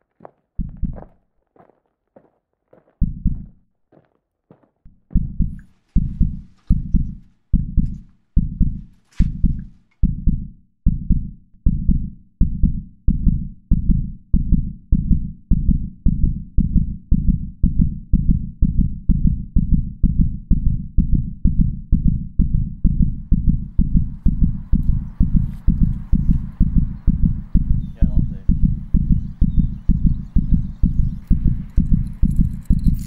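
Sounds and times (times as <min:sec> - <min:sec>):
heartbeat thumps: 0:00.2 - 0:01.7, 0:02.8 - 0:04.1, 0:04.9 - 0:33.0.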